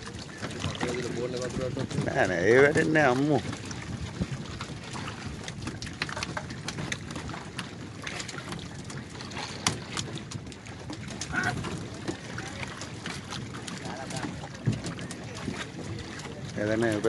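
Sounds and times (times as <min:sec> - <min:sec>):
water splashing against boat hull: 0:00.0 - 0:17.0.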